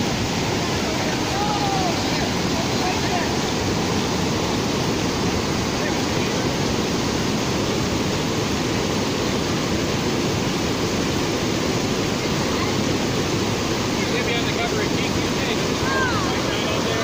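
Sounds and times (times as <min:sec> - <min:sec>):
water rushing over rock ledges: 0:00.0 - 0:17.0.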